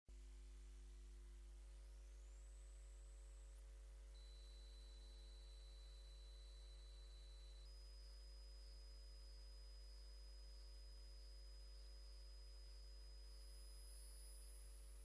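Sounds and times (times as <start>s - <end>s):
faint high-pitched tones: 0.9s - 15.0s.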